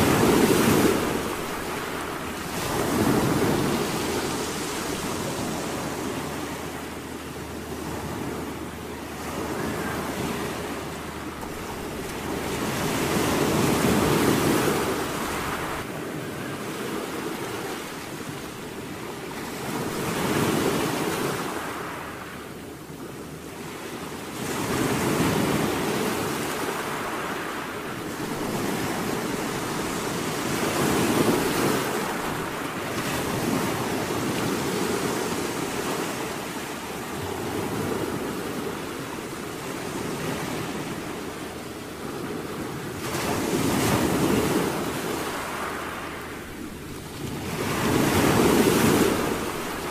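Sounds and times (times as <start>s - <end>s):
waves breaking on a beach: 0.0s - 49.9s.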